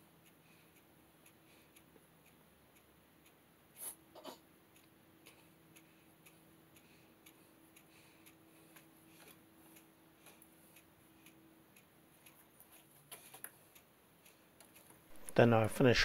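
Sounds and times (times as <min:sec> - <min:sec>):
faint steady hum: 0:00.0 - 0:16.0
faint ticking: 0:00.0 - 0:16.0.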